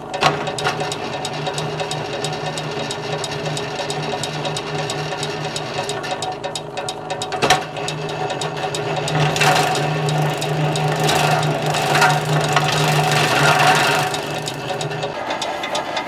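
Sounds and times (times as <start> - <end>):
cutter clicking and clattering: 0.0 - 16.0
motor hum: 0.0 - 16.0.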